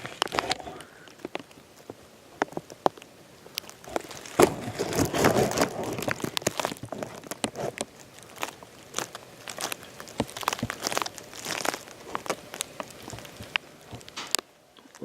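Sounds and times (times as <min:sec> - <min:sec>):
sharp crackles and rustling: 0:00.0 - 0:15.0.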